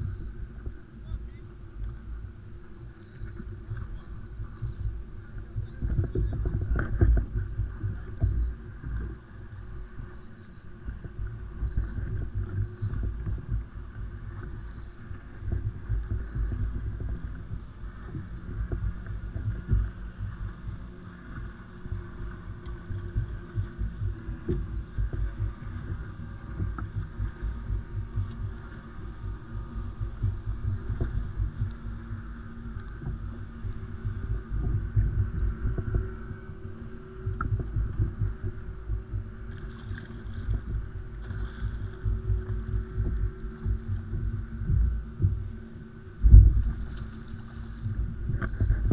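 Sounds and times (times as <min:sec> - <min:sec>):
faint hum: 0:00.0 - 0:48.9
wind and water buffeting: 0:00.0 - 0:48.9.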